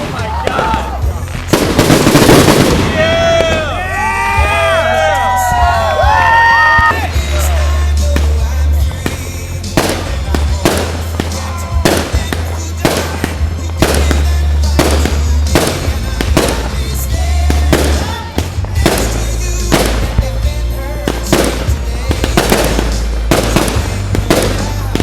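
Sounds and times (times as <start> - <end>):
firework shells bursting: 0.0 - 3.9, 6.8 - 25.0
music with heavy bass: 0.0 - 25.0.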